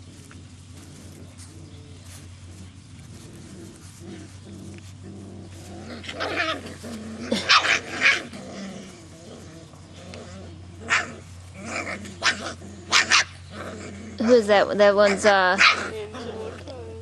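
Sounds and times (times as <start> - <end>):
puppies growling: 0.0 - 17.0.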